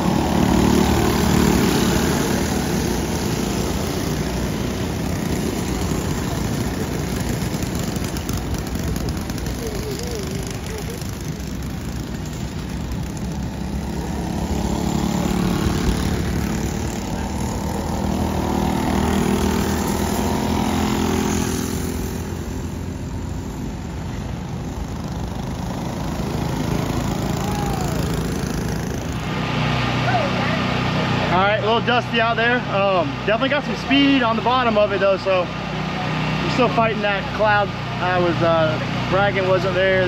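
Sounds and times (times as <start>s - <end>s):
racing kart engines: 0.0s - 40.0s.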